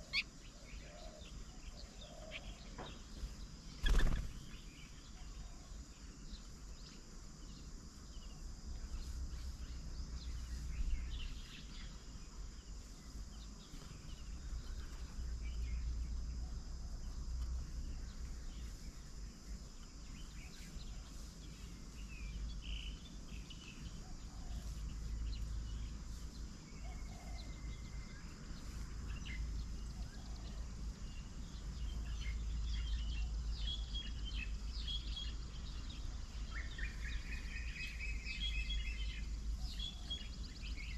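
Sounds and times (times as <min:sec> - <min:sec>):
bird chirps: 0:00.0 - 0:17.2, 0:17.8 - 0:40.9
high insect hum: 0:00.0 - 0:40.9.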